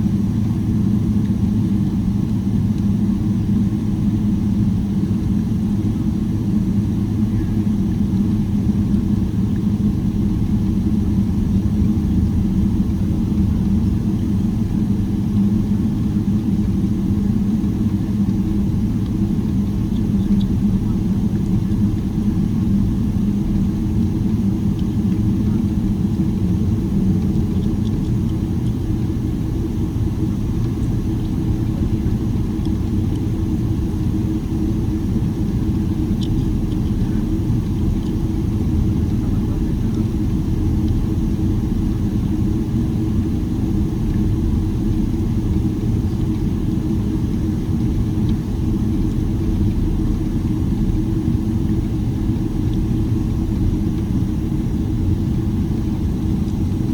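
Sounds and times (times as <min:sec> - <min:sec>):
jet engines rumbling in cabin: 0:00.0 - 0:56.9.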